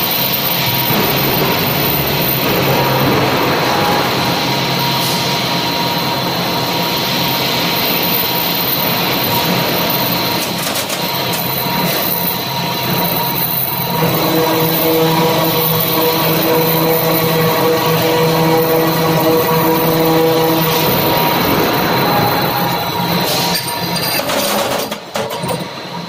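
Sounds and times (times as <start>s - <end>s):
circular saw cutting tubes: 0.0s - 26.0s.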